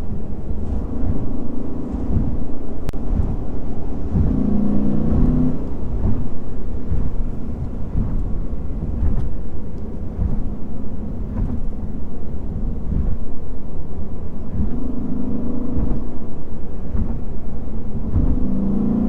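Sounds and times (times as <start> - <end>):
car engine rumbling: 0.0 - 19.0
road noise: 0.0 - 19.0.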